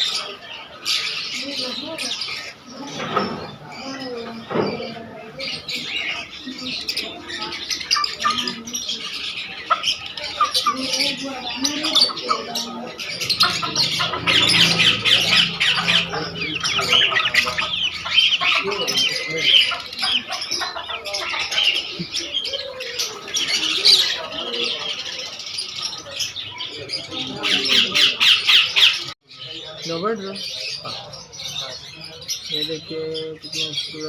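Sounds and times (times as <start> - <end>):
many birds chirping and squawking: 0.0 - 34.0.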